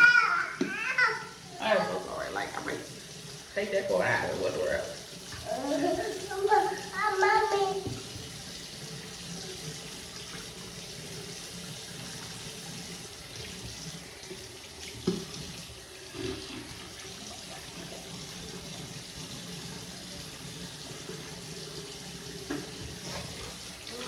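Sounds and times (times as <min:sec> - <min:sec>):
water running: 0:00.0 - 0:24.0.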